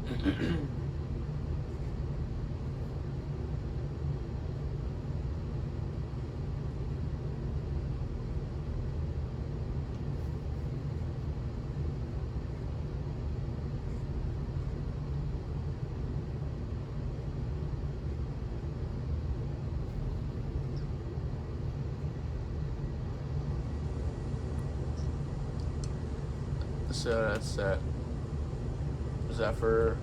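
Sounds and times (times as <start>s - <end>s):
ceiling fan coasting down: 0.0s - 30.0s.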